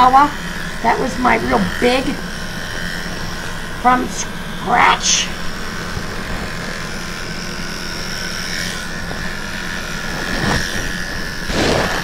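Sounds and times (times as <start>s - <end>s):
electric clippers whining: 0.0s - 12.0s.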